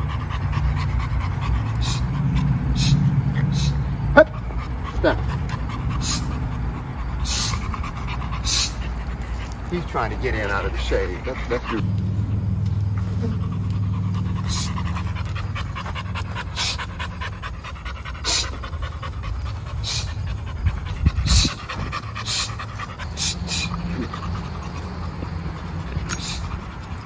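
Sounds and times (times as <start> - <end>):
dog panting: 0.0 - 27.0
low steady rumble: 0.0 - 27.0.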